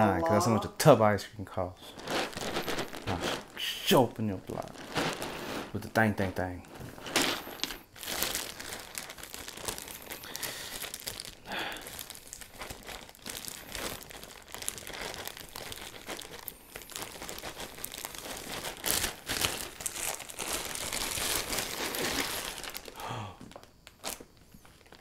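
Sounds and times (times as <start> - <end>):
plastic bag crinkling: 1.8 - 25.0.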